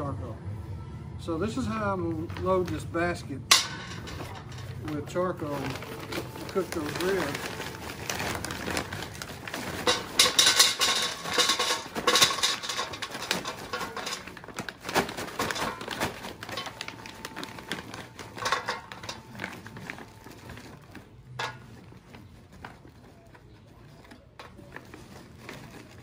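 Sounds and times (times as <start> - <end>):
bag rustling: 3.5 - 26.0
charcoal clattering into metal basket: 3.5 - 26.0.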